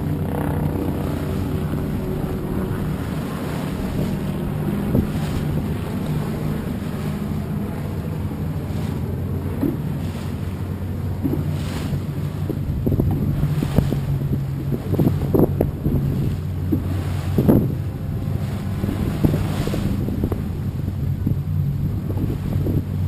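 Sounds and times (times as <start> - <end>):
choppy water washing past hull: 0.0 - 23.0
motorboat engine running: 0.0 - 23.0
wind on microphone: 0.0 - 23.0.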